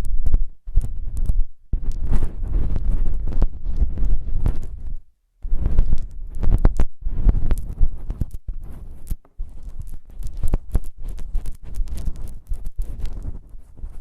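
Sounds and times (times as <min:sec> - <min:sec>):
close rubbing and scratching: 0:00.0 - 0:14.0.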